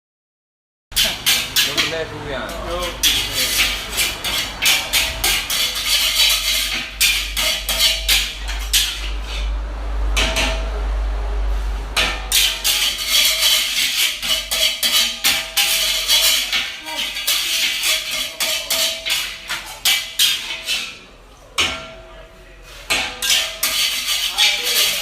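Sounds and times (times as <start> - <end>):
utensils clattering on pots: 0.9 - 11.0, 11.9 - 22.2, 22.8 - 25.0
steady low hum: 1.0 - 24.3.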